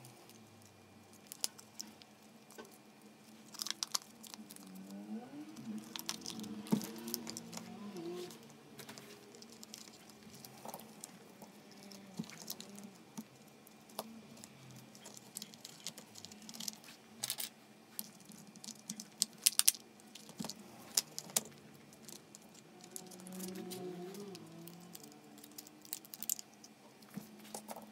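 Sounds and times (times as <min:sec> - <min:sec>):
plastic parts clicking and rattling: 0:00.3 - 0:05.0, 0:05.6 - 0:27.9.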